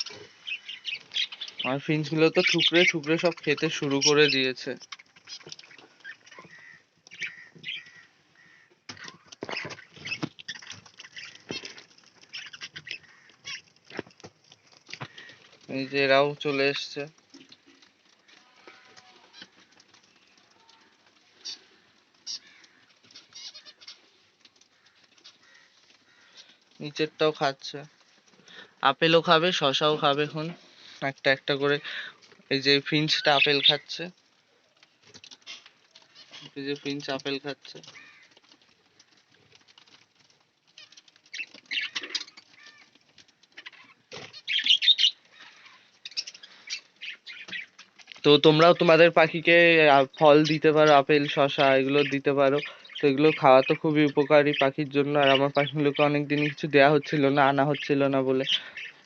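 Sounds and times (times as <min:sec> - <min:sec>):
birds pecking at food: 0:00.0 - 0:59.0
small birds chirping: 0:00.0 - 0:59.0.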